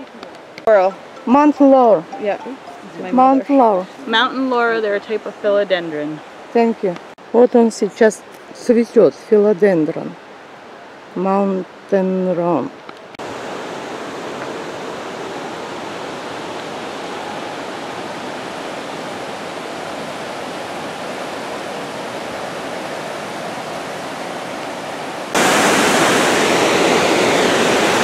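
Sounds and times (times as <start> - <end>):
creek water over rocky rapids: 0.0 - 28.0.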